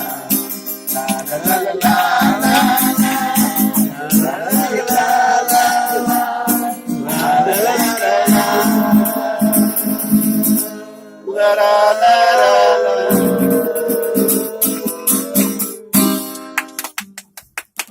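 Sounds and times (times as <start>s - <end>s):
strummed acoustic guitar: 0.0s - 11.3s, 13.0s - 16.9s
person singing: 0.0s - 16.4s.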